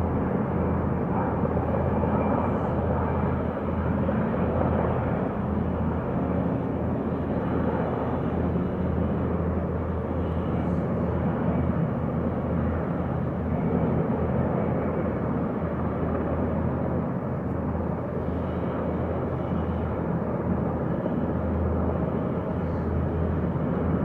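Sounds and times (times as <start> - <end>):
distant military aircraft drone: 0.0 - 24.0.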